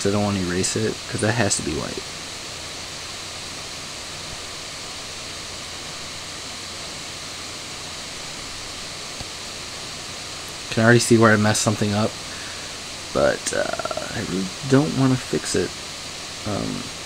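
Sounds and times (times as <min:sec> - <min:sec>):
background hiss: 0:00.0 - 0:17.0
faint low hum: 0:00.0 - 0:17.0.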